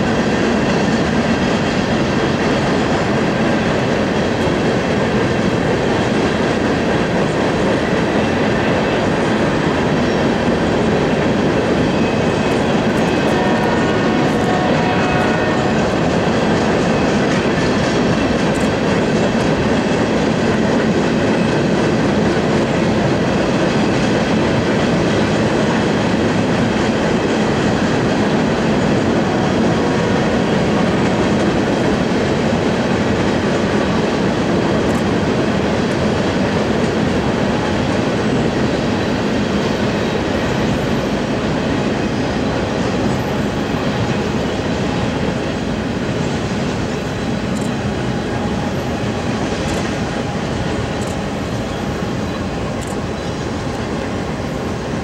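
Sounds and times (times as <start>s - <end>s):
freight train rolling over steel bridge: 0.0s - 55.0s.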